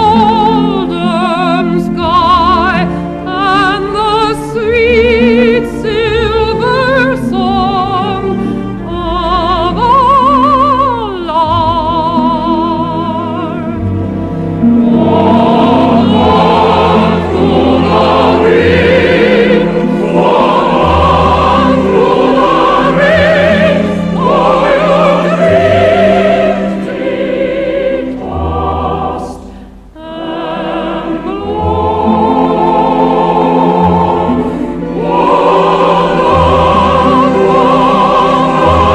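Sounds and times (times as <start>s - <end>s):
choir voices: 0.0s - 38.9s
operatic singing with vibrato: 0.0s - 38.9s
orchestral accompaniment: 0.0s - 38.9s.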